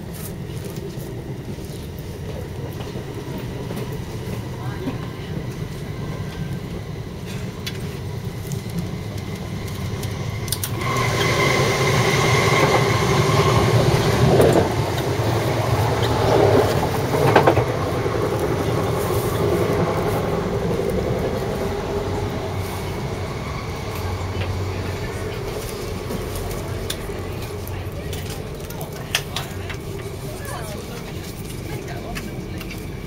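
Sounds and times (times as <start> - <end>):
train running rumble: 0.0 - 33.0.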